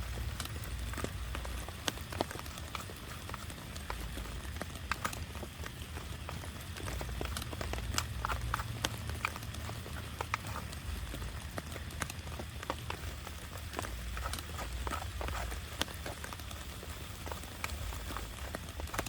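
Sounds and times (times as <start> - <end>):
low steady rumble: 0.0 - 19.0
rain drops tapping on a tarp: 0.0 - 19.0.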